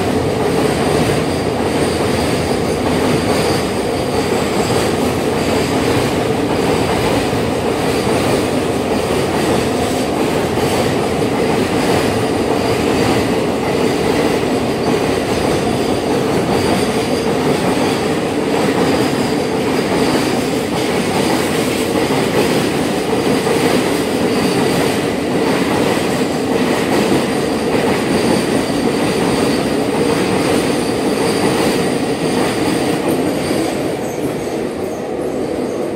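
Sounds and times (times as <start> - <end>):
rail-joint clatter: 0.0 - 35.9
train wheels rumbling on rails: 0.0 - 35.9.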